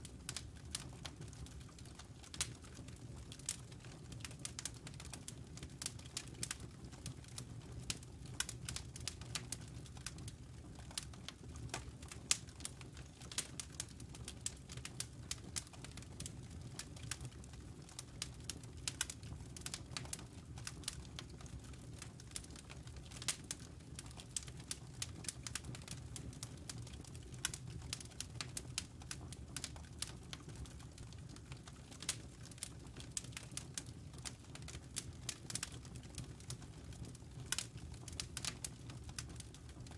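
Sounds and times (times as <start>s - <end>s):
low rustle of fire: 0.0s - 39.9s
campfire crackling: 0.1s - 39.9s.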